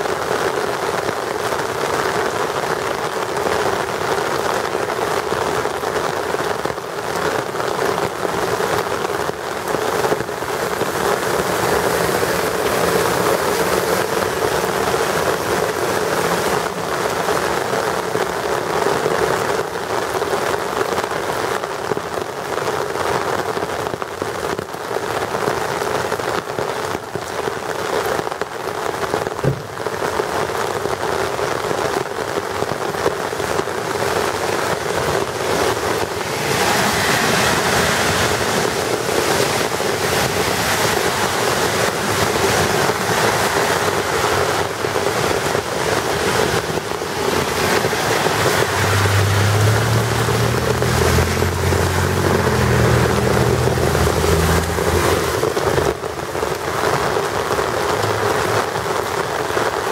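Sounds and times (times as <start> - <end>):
rain splashing on street: 0.0 - 59.9.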